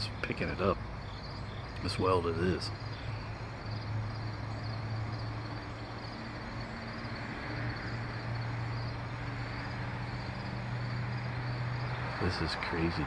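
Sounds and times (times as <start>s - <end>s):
constant hiss: 0.0s - 13.0s
crickets chirping: 0.0s - 13.0s
steady low hum: 0.0s - 13.0s.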